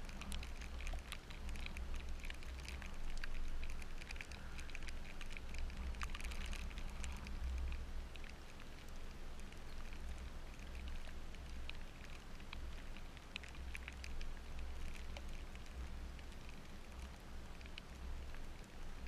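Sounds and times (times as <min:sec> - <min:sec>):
low steady hum: 0:00.0 - 0:19.0
raindrops ticking close by: 0:00.0 - 0:19.0
steady rain: 0:00.0 - 0:19.0.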